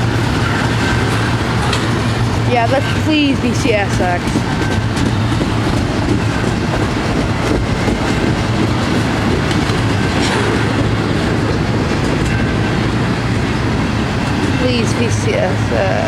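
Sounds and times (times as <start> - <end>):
freight train rumbling past: 0.0 - 16.0
steel wheels clacking over rail joints: 0.0 - 16.0.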